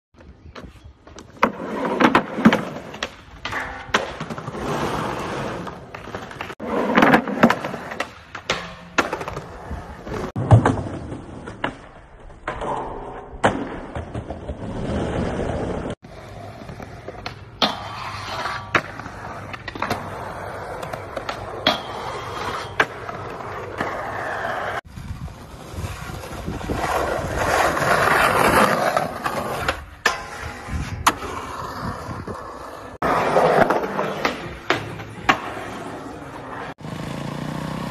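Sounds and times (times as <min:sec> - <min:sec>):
skateboard wheels rolling on concrete: 0:00.2 - 0:37.9.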